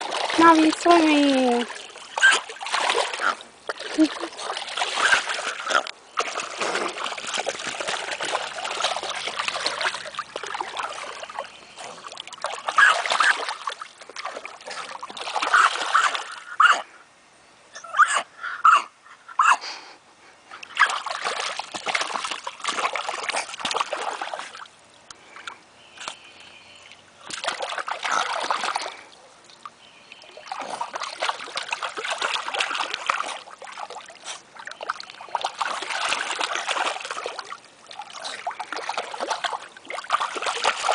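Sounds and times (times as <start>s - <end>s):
puppy paddling water splashing: 0.0s - 16.8s, 20.5s - 40.9s.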